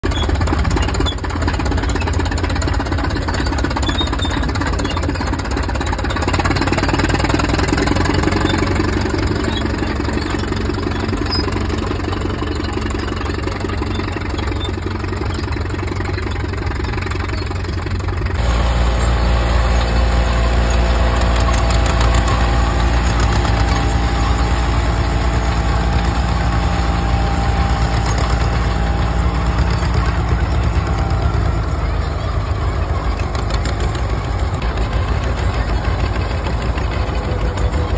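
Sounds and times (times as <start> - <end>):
loud steady tractor engine: 0.0 - 37.9
tractor engine rapid even beat: 0.0 - 37.9.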